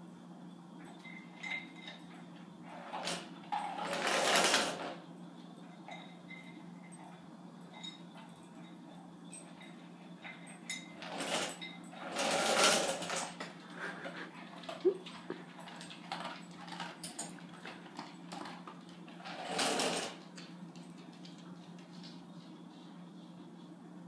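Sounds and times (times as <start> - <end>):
steady low hum: 0.0 - 19.6, 20.2 - 24.0.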